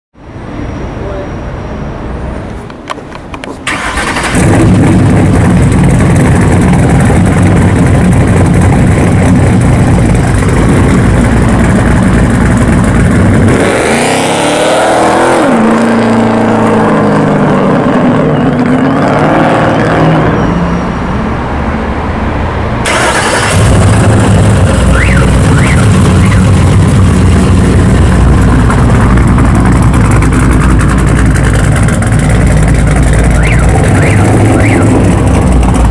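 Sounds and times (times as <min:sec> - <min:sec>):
car engine revving: 0:03.7 - 0:20.5, 0:22.8 - 0:35.9.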